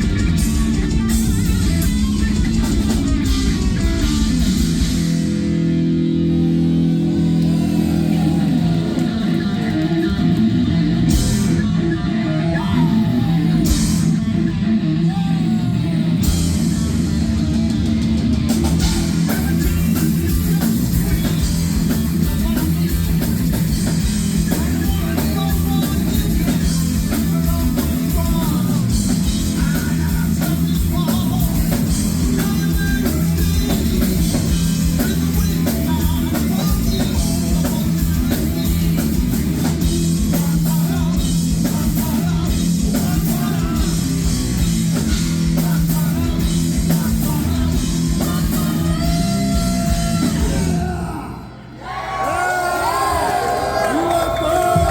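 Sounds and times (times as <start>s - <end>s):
distorted electric guitar: 0.0s - 51.0s
heavy metal band playing live: 0.0s - 51.6s.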